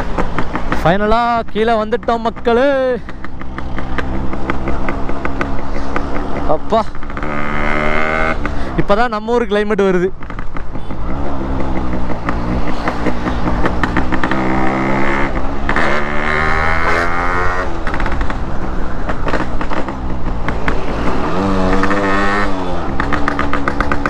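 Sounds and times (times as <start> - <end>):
two-stroke motorcycle engine: 0.0 - 24.0.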